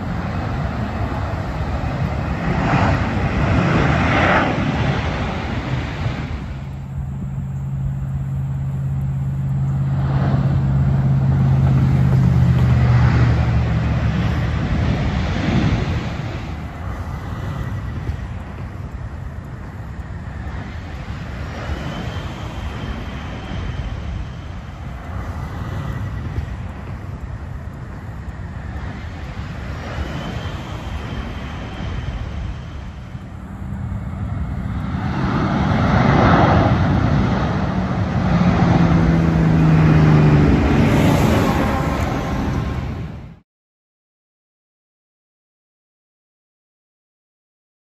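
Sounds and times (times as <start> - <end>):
highway traffic rumble: 0.0 - 43.4
truck engine low hum: 0.0 - 43.4
vehicles passing close by: 0.0 - 43.4.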